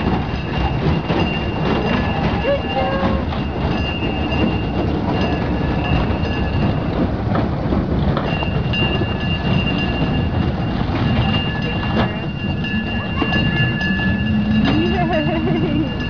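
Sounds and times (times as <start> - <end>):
miniature train rumbling on track: 0.0 - 16.0.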